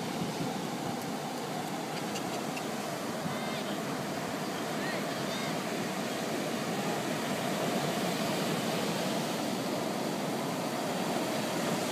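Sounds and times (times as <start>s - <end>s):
small waves breaking on beach: 0.0s - 11.9s.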